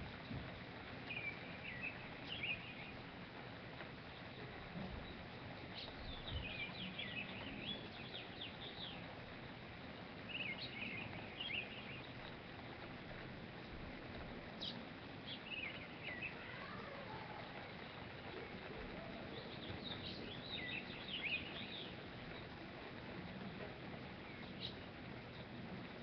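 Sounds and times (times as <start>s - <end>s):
songbirds chirping: 0.0s - 26.0s
steady background hiss: 0.0s - 26.0s.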